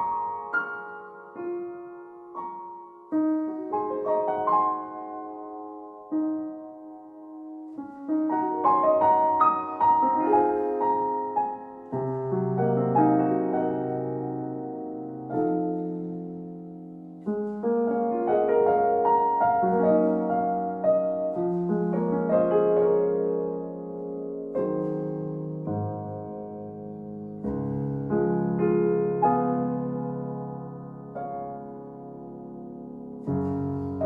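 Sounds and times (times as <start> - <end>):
calm solo piano: 0.0 - 34.0.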